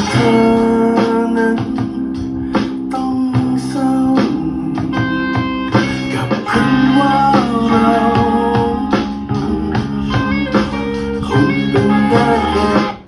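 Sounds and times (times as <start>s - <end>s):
song through guitar amplifier: 0.0s - 13.0s.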